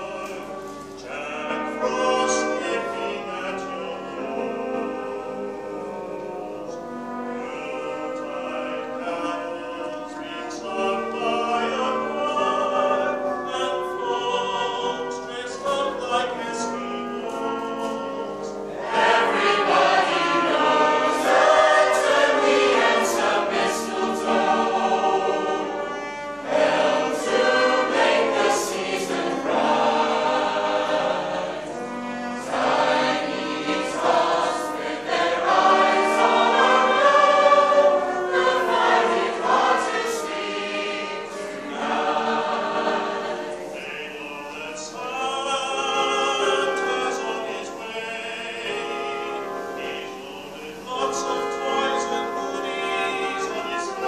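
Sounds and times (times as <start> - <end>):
choir singing a carol: 0.0 - 54.0.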